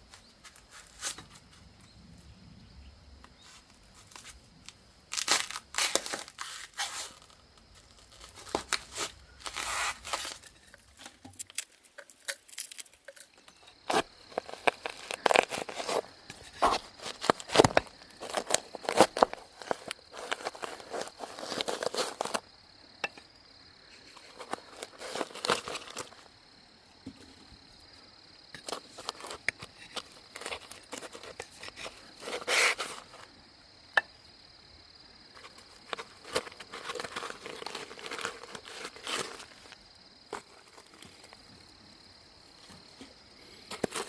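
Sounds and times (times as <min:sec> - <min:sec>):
rustling crunching and scraping: 0:00.0 - 0:01.9, 0:03.4 - 0:22.5, 0:23.8 - 0:26.4, 0:28.6 - 0:33.4, 0:35.3 - 0:41.6, 0:42.5 - 0:44.0.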